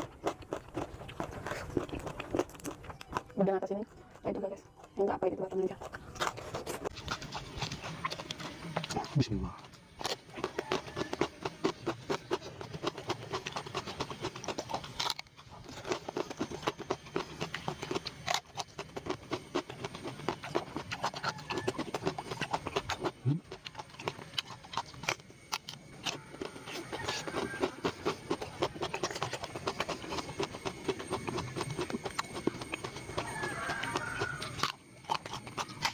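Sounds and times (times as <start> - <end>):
chewing with wet mouth clicks: 0.0 - 35.9.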